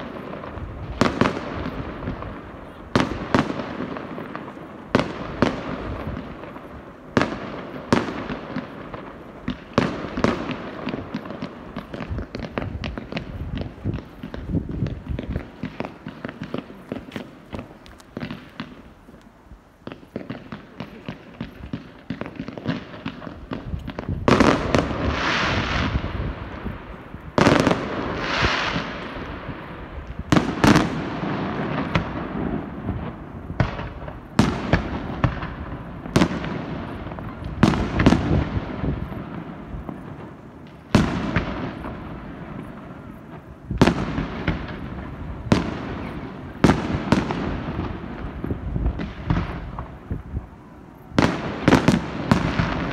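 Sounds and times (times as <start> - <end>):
firework bangs: 0.0 - 19.2, 19.8 - 52.9
firework crackling: 0.0 - 52.9.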